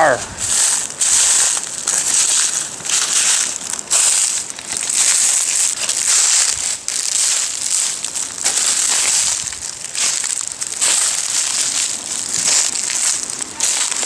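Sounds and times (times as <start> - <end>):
footsteps crunching dry leaves: 0.0 - 14.0.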